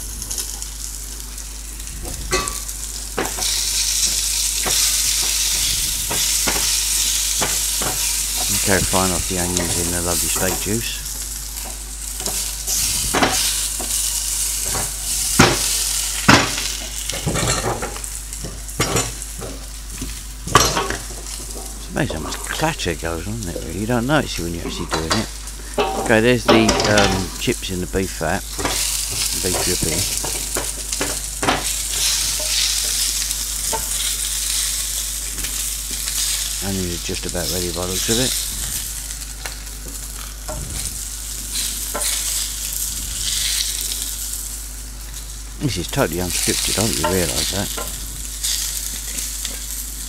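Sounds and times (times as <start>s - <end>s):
onions sizzling in a pan: 0.0s - 50.0s.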